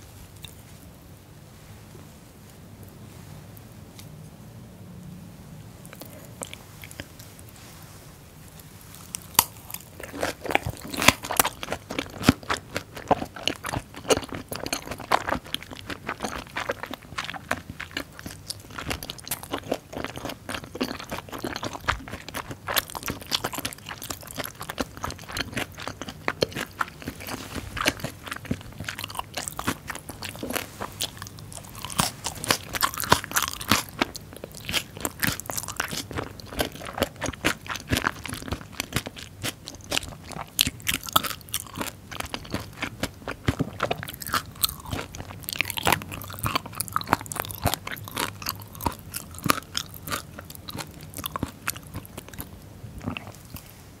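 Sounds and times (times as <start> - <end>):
close-miked chewing crunches: 5.8 - 7.7, 8.5 - 53.8.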